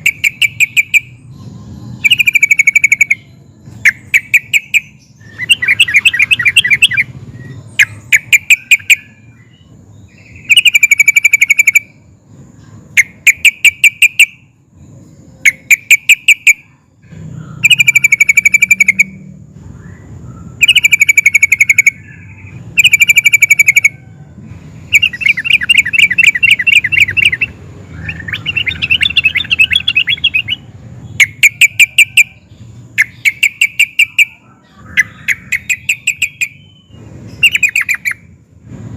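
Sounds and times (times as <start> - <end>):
bird singing bubbling phrases: 0.0 - 14.4, 15.4 - 23.9, 24.9 - 38.2.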